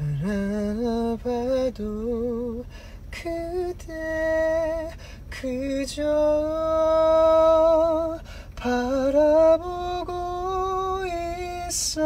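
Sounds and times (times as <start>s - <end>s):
man singing a slow ballad: 0.0s - 12.0s.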